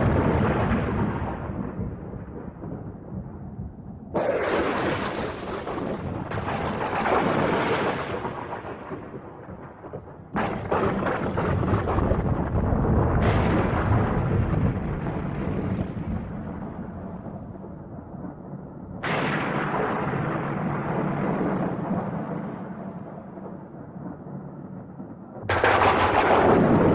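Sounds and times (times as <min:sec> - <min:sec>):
deep thunder rumble: 0:00.0 - 0:26.9
thunder claps: 0:00.0 - 0:26.9.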